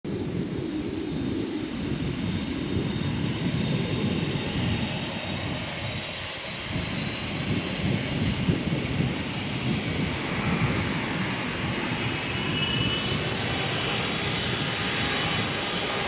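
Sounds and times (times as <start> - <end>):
faint high engine whine: 0.1 - 16.0
jet engines rumbling: 0.1 - 16.0.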